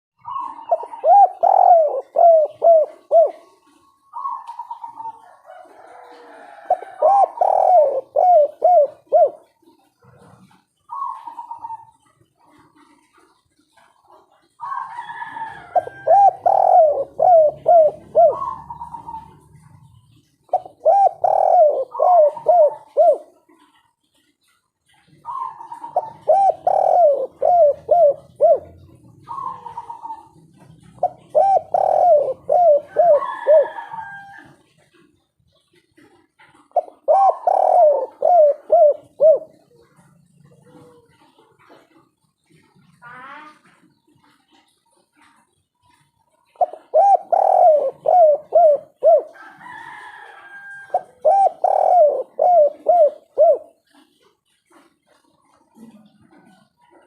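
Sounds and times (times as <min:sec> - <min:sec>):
dove cooing: 0:00.2 - 0:57.0.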